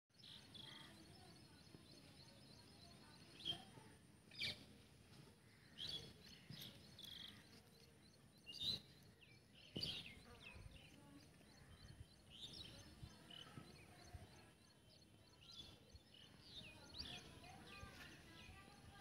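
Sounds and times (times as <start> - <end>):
birds chirping: 0.1 - 19.0
faint outdoor hiss: 0.2 - 19.0.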